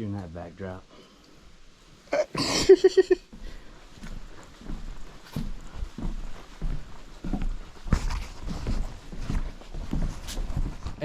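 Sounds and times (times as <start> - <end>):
footsteps on a trail: 0.0 - 11.0.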